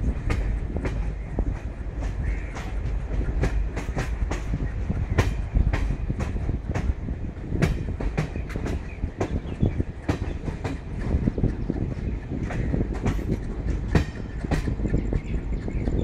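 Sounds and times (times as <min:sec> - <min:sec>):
train rumbling: 0:00.0 - 0:16.0
wheels clacking over rail joints: 0:00.0 - 0:16.0.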